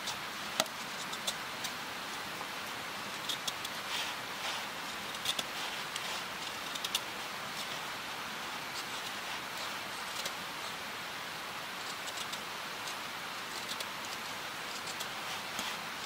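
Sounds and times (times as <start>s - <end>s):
wood fire crackling in stove: 0.0s - 16.0s.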